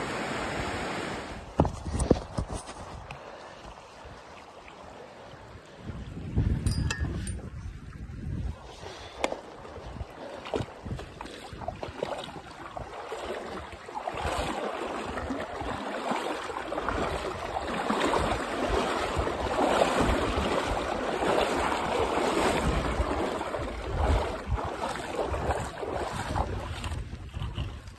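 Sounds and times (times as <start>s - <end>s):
stream water rushing and splashing: 0.0s - 27.9s
wind rumble on microphone: 0.4s - 4.4s, 5.2s - 27.9s.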